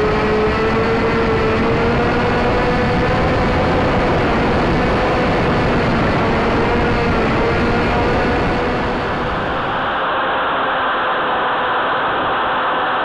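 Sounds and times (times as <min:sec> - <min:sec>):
electric motor and propeller whining: 0:00.0 - 0:13.0
wind rush on microphone: 0:00.0 - 0:13.0.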